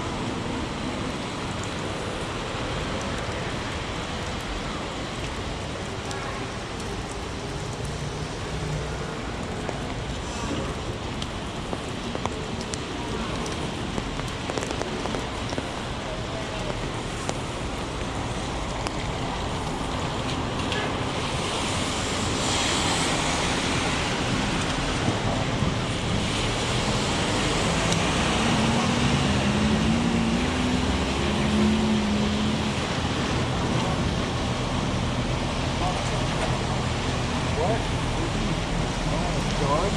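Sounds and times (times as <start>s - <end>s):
heavy rain on street: 0.0s - 39.9s
wet tyre hiss of traffic: 0.0s - 39.9s.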